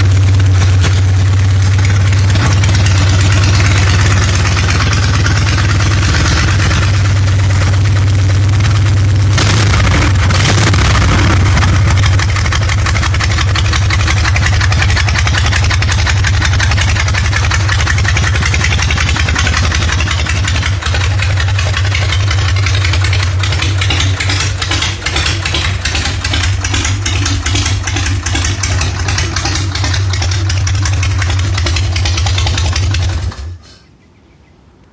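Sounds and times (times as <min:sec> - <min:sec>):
motorcycle engine idling: 0:00.0 - 0:33.6.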